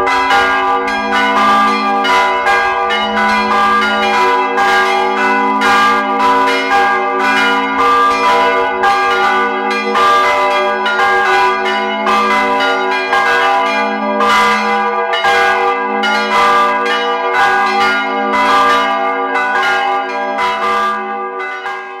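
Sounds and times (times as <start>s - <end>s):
church bells pealing: 0.0s - 22.0s.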